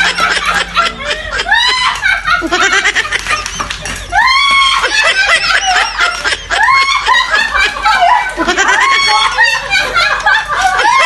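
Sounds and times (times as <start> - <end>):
women laughing and shrieking: 0.0 - 11.0.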